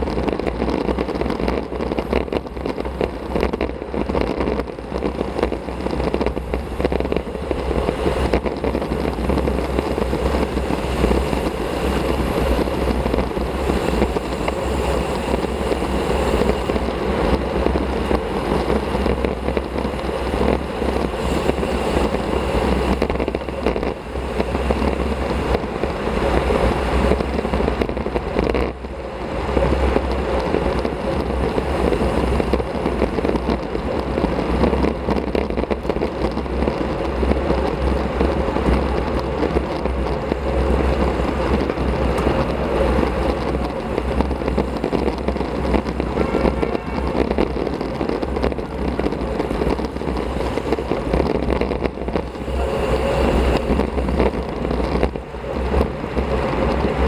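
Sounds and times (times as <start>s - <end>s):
tyre and road noise: 0.0s - 57.0s
wind rushing over microphone: 0.0s - 57.0s.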